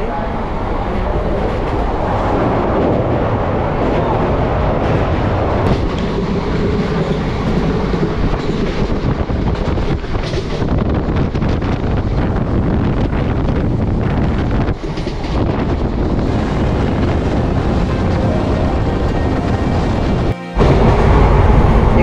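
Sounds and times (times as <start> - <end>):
train rumbling and clattering: 0.0 - 22.0.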